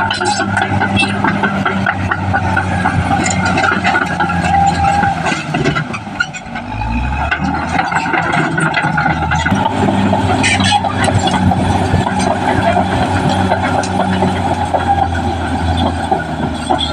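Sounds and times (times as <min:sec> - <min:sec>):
bulldozer diesel engine running: 0:00.0 - 0:16.9
metallic clanking and rattling: 0:00.0 - 0:16.9.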